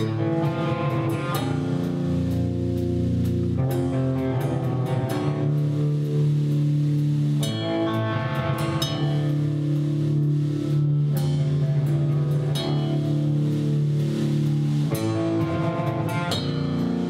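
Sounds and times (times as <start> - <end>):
bass guitar: 0.0 - 17.0
drums and cymbals: 0.0 - 17.0
electric guitar chords: 0.0 - 17.0.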